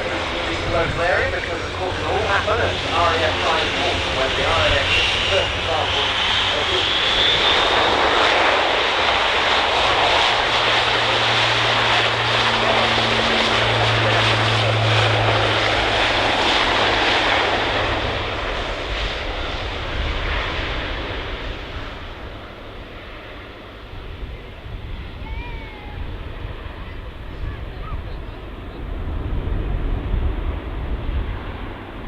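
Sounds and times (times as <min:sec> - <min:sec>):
turboprop aircraft flying past: 0:00.0 - 0:32.0.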